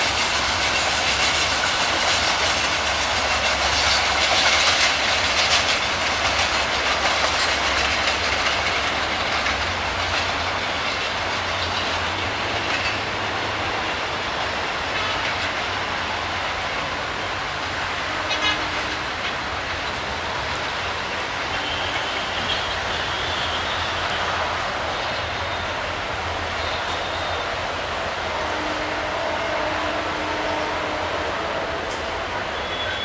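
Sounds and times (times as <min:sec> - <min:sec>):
train running on track: 0:00.0 - 0:33.0.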